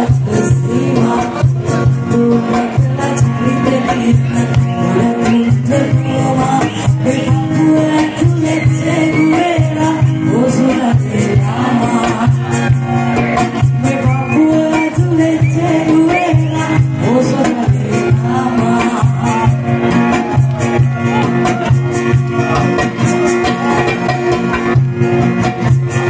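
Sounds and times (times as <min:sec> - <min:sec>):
lead singer vocals: 0:00.0 - 0:24.1
live band music: 0:00.0 - 0:26.0.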